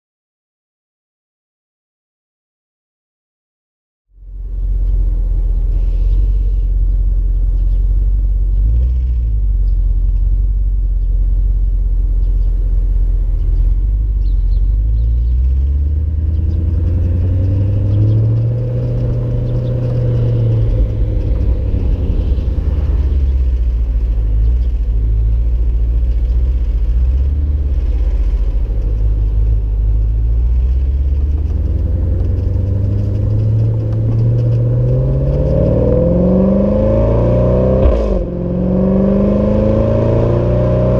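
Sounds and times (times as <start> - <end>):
car exhaust deep rumble: 4.1 - 40.9.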